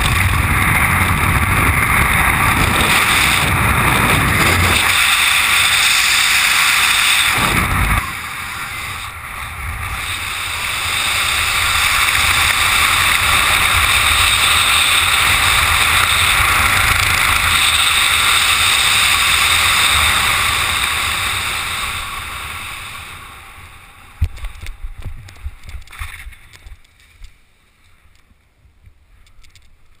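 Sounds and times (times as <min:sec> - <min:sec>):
rushing wind on microphone: 0:00.0 - 0:27.3.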